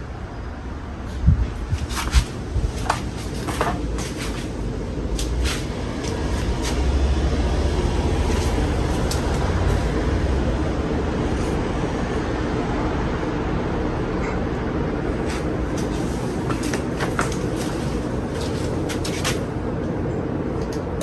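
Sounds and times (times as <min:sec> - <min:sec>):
ceiling fan whoosh: 0:00.0 - 0:21.0.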